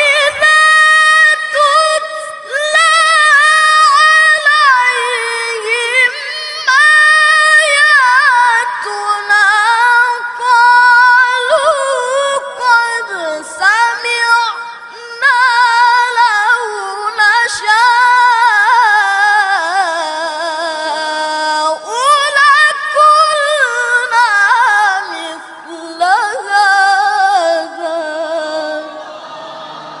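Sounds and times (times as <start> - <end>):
boy reciting melodically: 0.0 - 29.0.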